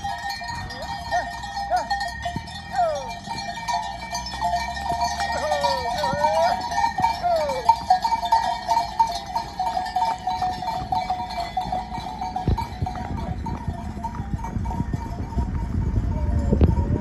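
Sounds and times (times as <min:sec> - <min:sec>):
cattle bells clanking: 0:00.0 - 0:17.0.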